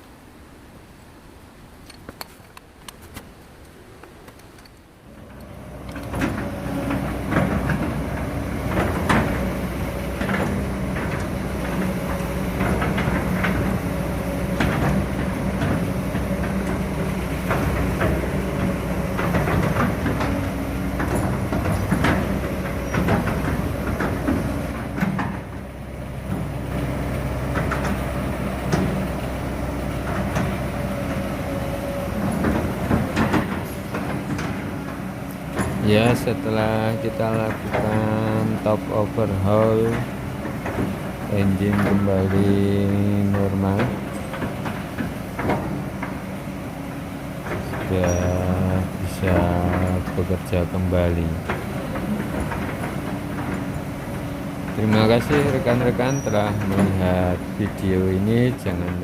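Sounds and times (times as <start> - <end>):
diesel engine humming: 2.6 - 59.0
metallic clanks and knocks: 4.3 - 29.3, 29.9 - 46.5, 47.4 - 59.0.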